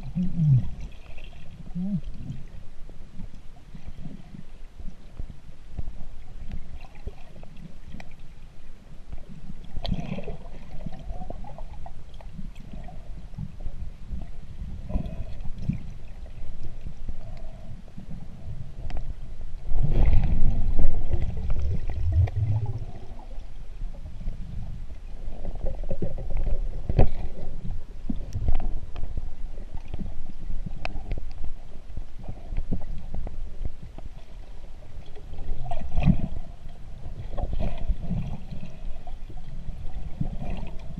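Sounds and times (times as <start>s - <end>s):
underwater water rumble: 0.0s - 40.9s.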